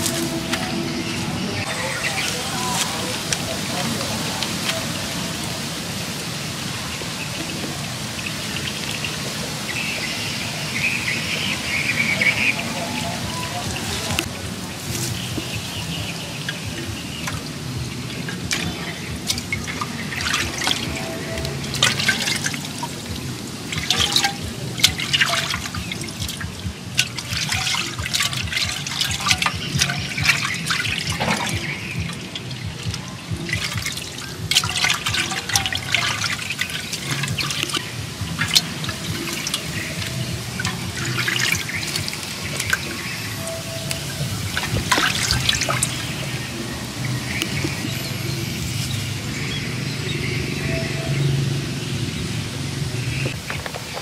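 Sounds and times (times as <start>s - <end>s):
water sloshing and splashing in a pot: 1.6s - 50.4s.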